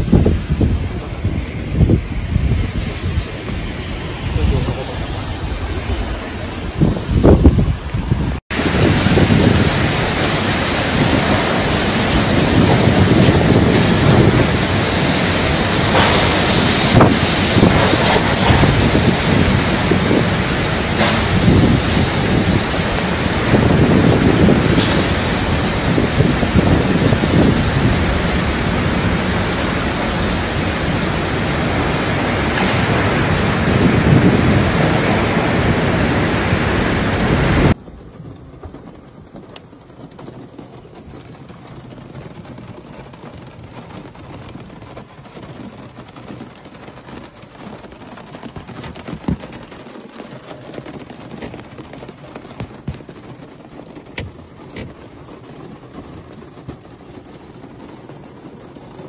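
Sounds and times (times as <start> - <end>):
heavy rainstorm rushing: 0.0 - 59.0.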